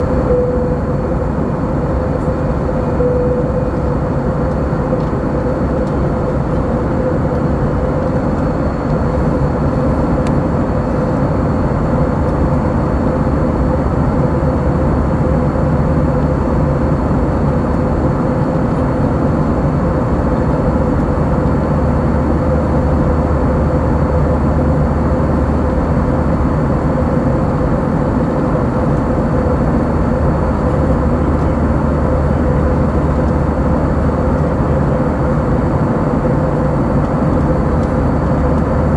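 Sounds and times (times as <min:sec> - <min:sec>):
jet engine cabin rush: 0:00.0 - 0:38.9.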